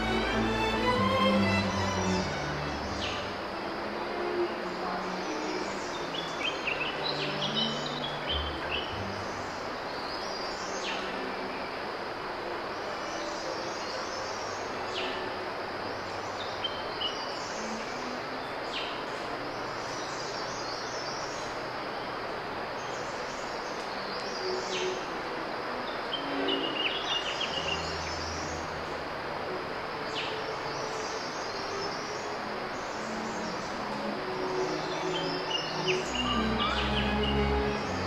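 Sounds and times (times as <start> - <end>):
steady forest hiss: 0.0 - 38.0.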